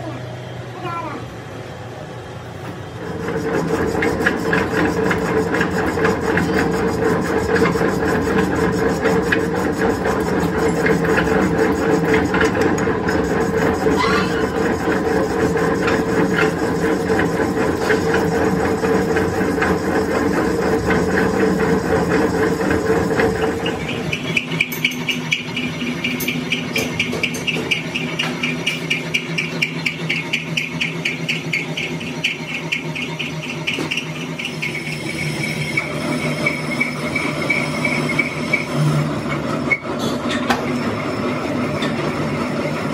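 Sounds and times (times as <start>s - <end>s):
metal lathe humming: 1.4s - 42.9s.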